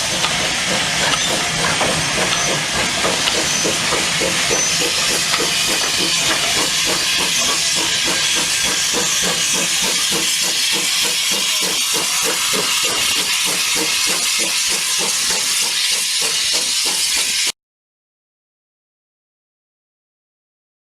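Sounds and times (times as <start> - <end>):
steam locomotive hissing: 0.0 - 17.5.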